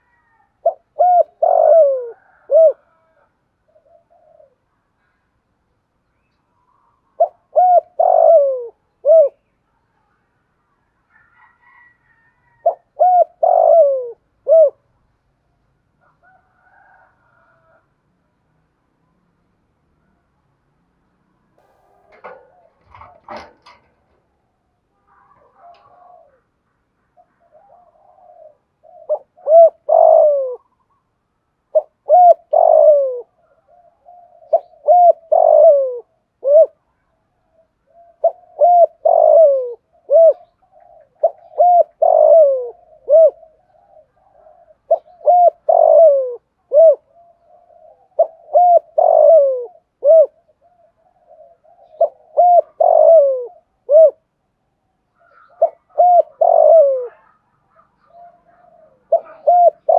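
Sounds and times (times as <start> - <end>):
dove cooing: 0.0 - 4.8, 6.7 - 9.5, 11.1 - 15.0, 21.6 - 26.6, 27.2 - 31.0, 31.7 - 54.4, 55.1 - 59.9.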